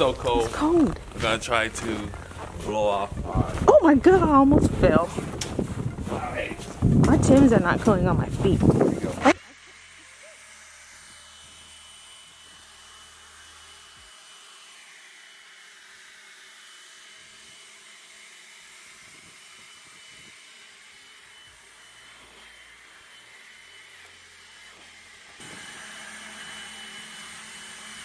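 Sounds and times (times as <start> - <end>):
leaf blower running: 0.0 - 28.0.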